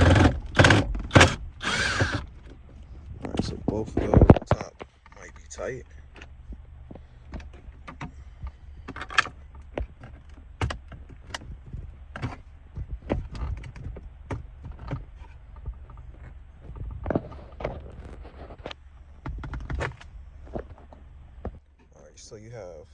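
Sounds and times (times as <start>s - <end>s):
low hum: 0.0s - 22.9s.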